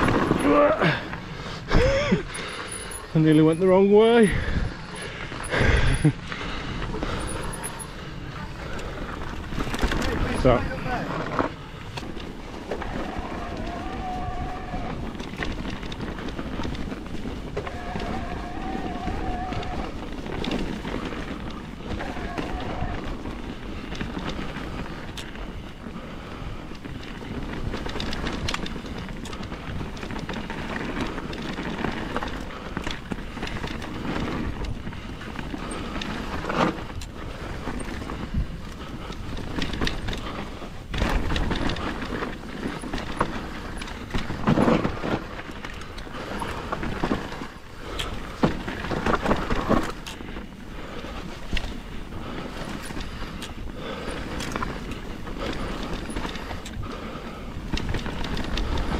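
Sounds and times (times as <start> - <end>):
bike rattling over bumps: 0.0 - 58.9
bike tyres on dirt trail: 0.0 - 58.9.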